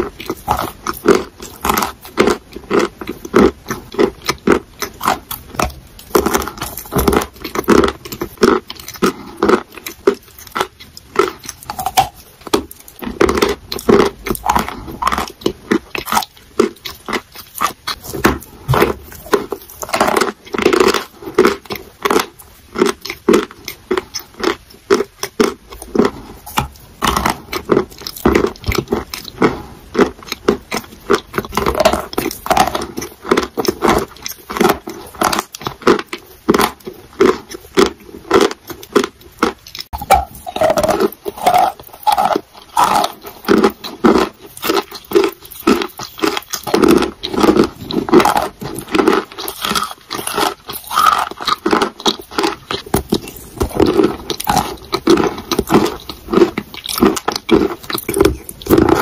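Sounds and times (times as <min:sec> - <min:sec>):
sticky chewing and lip-smacking: 0:00.0 - 0:59.0.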